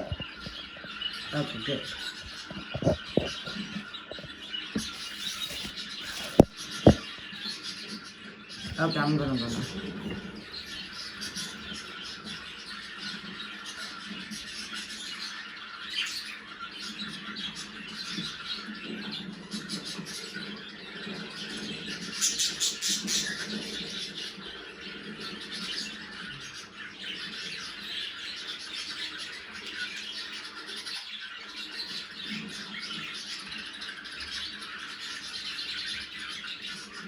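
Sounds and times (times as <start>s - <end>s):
budgerigars chattering: 0.0s - 37.0s.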